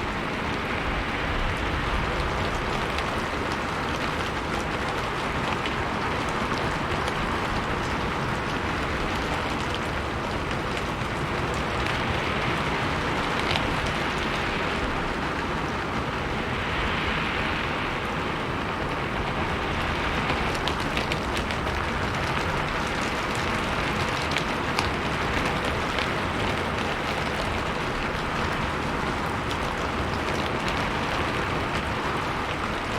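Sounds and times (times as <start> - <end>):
rain on a roof: 0.0 - 32.9.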